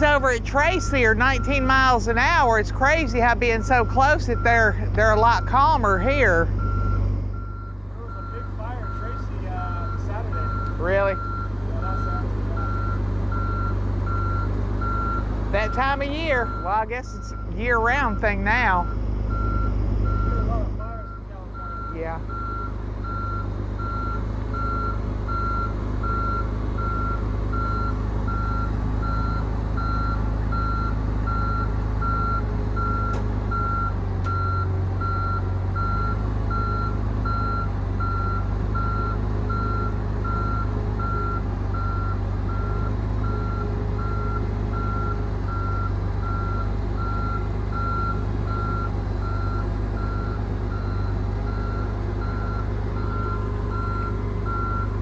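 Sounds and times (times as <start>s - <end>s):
engine rumbling: 0.0s - 55.0s
vehicle backup alarm beeping: 0.0s - 55.0s.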